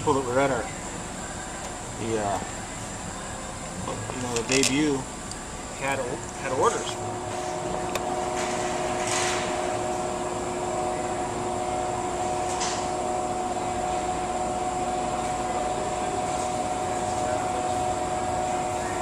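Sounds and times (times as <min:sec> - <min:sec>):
machine drone with steady tones: 0:00.0 - 0:19.0.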